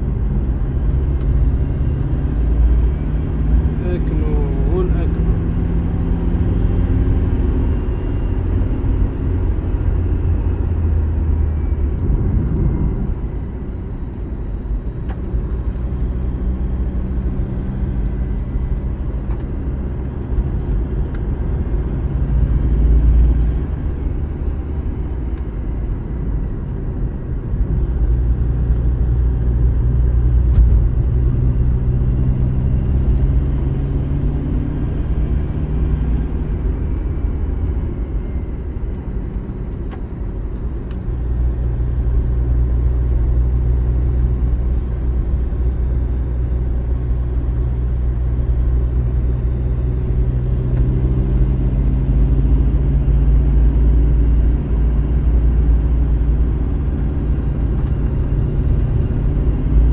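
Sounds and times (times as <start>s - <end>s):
car engine running: 0.0s - 59.9s
road rumble: 0.0s - 59.9s.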